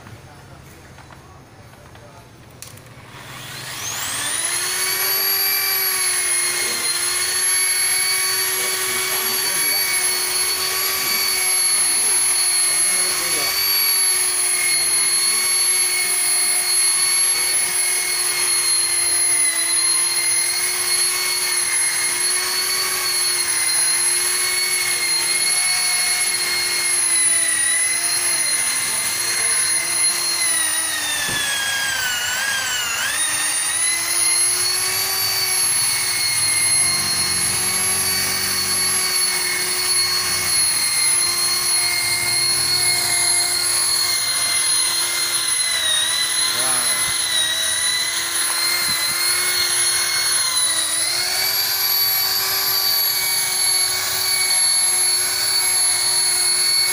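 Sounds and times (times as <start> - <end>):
electric car polisher whining: 2.7 - 56.9.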